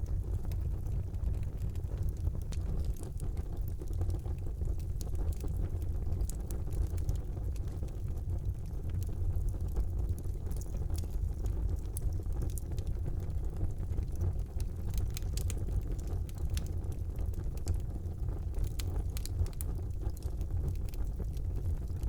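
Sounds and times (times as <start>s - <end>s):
burning wood crackling and popping: 0.0s - 22.0s
fire rumbling: 0.0s - 22.0s.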